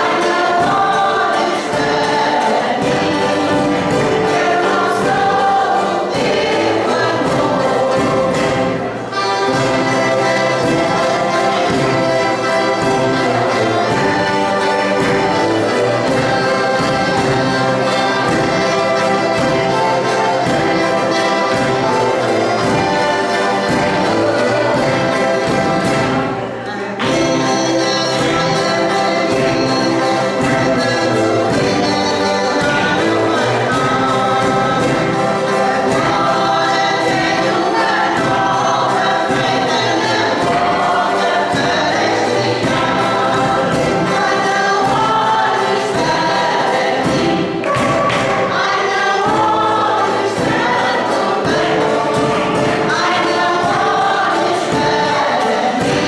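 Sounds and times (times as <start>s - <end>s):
accordion: 0.0s - 56.0s
acoustic guitar: 0.0s - 56.0s
group of voices singing: 0.0s - 56.0s
strummed string ensemble: 0.0s - 56.0s.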